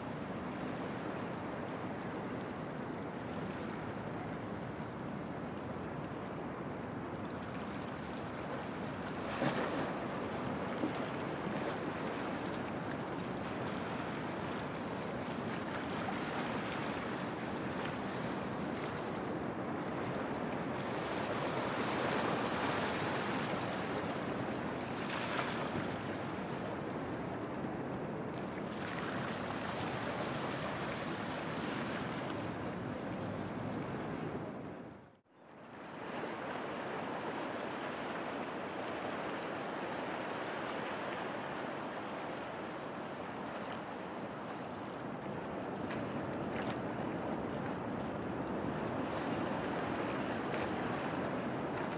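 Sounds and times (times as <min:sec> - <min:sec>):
wind: 0:00.0 - 0:51.9.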